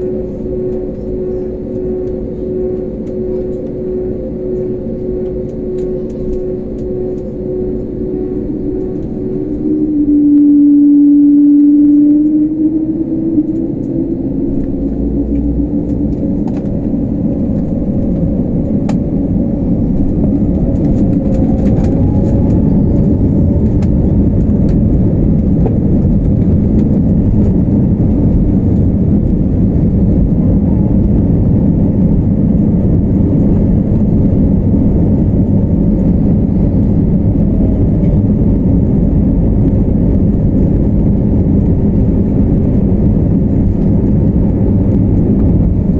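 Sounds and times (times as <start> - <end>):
faint tone shifting in pitch: 0.0 - 45.9
jet engines rumbling in cabin: 0.0 - 45.9.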